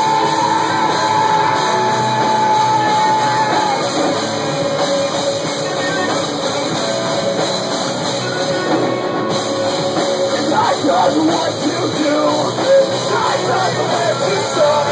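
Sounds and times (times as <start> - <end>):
bass guitar: 0.0 - 14.9
drum kit: 0.0 - 14.9
electric guitar: 0.0 - 14.9.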